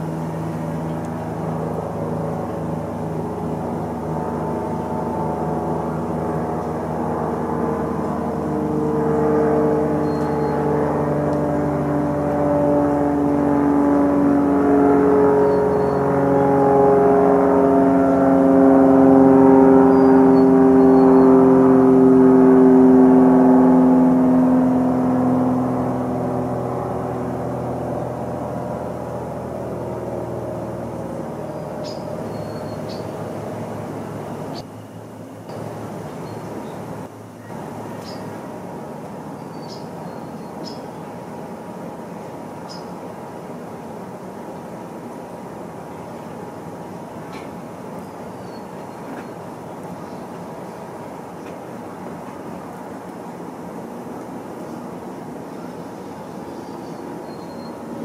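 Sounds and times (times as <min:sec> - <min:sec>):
engine drone: 0:00.0 - 0:58.0.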